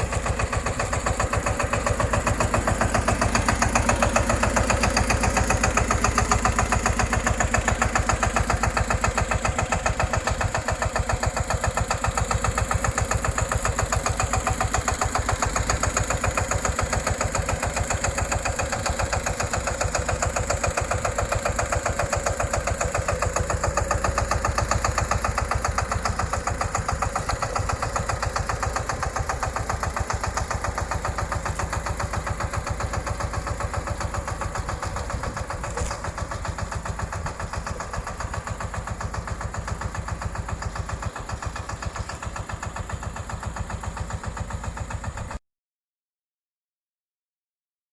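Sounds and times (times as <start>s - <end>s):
small tractor engine running: 0.0s - 45.4s.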